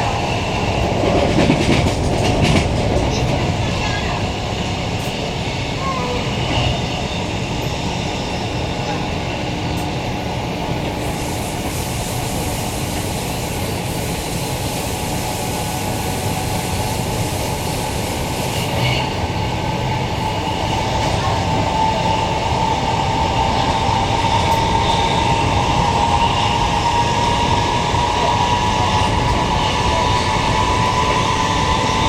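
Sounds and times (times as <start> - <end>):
electric train rumbling and hissing: 0.0 - 32.0
train whine: 0.0 - 32.0.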